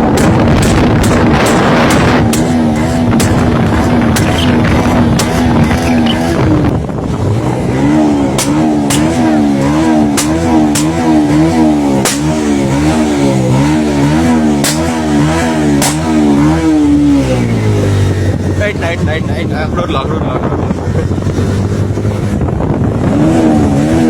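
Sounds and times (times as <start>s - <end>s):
sharp exhaust pops: 0.0s - 19.4s
motorcycle engine revving: 0.0s - 24.0s.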